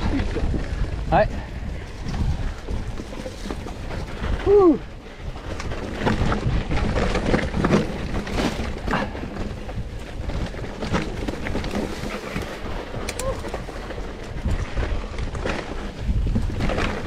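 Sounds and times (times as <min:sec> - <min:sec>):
bike frame and chain rattling: 0:00.0 - 0:17.0
bike tyres on dirt and stones: 0:00.0 - 0:17.0.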